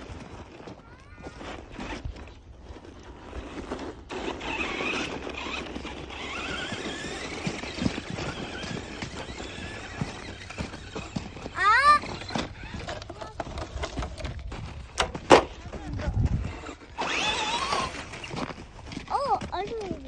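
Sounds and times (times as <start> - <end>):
tyres churning snow: 0.0 - 20.0
toy truck motor whining: 1.2 - 15.1, 15.9 - 19.8.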